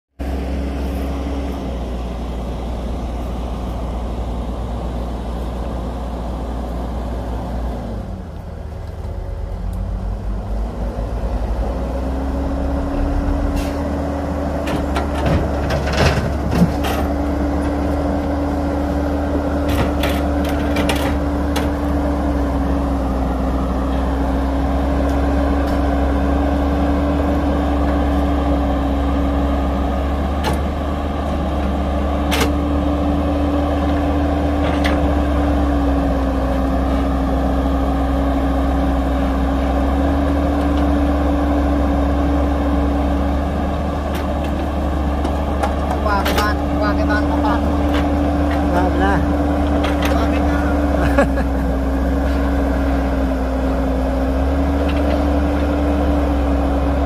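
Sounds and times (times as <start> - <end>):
heavy diesel engine running: 0.2 - 57.0.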